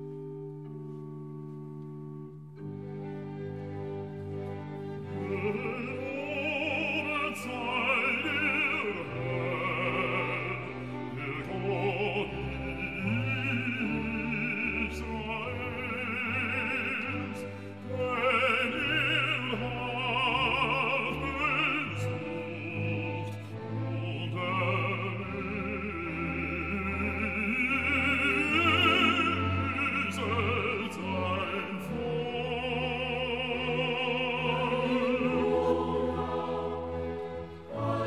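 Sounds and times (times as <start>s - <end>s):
orchestral accompaniment: 0.0s - 38.0s
solo classical singer: 0.0s - 38.0s.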